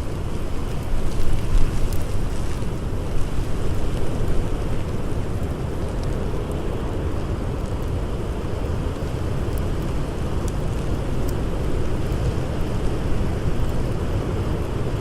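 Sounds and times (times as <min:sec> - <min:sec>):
blizzard wind blowing: 0:00.0 - 0:15.0
faint campfire crackles and pops: 0:00.0 - 0:15.0.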